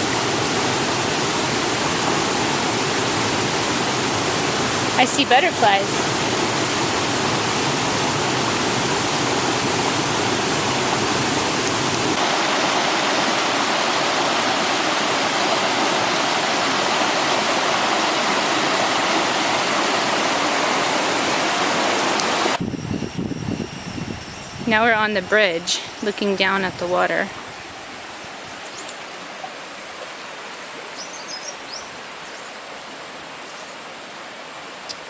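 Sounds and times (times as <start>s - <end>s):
waterfall roaring: 0.0s - 22.7s, 24.7s - 35.0s.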